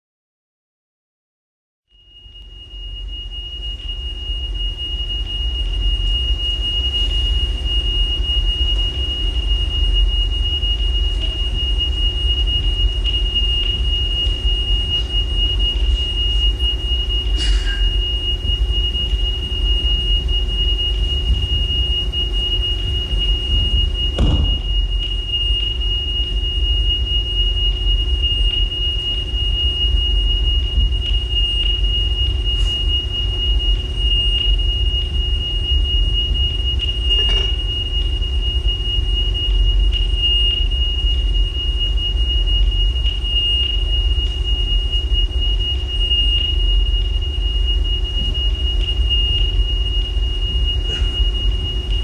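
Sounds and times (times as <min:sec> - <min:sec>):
high-pitched whine: 0:01.9 - 0:52.0
low rumble and hum: 0:02.0 - 0:52.0.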